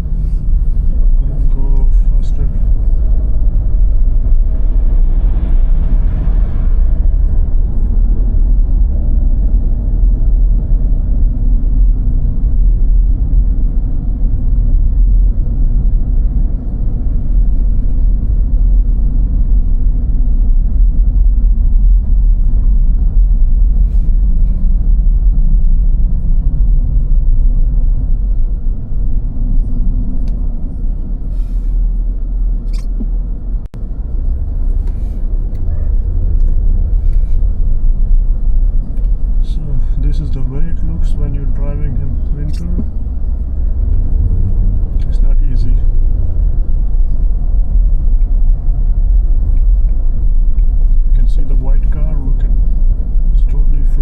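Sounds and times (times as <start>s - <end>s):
car driving on snowy road: 0.0s - 54.0s.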